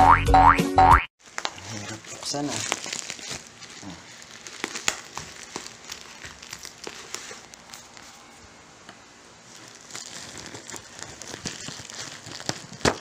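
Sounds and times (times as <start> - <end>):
plastic pouch crinkling: 1.2 - 8.4, 9.4 - 13.0.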